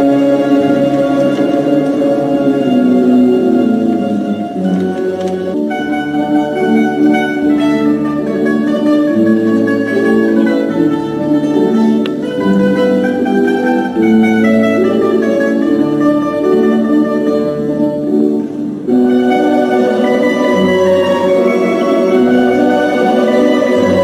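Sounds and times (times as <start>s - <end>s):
mandolin orchestra playing: 0.0s - 24.0s.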